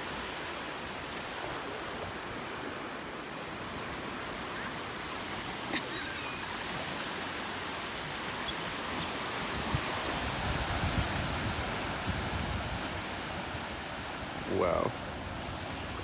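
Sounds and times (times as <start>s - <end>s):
ocean surf on shore: 0.0s - 16.0s.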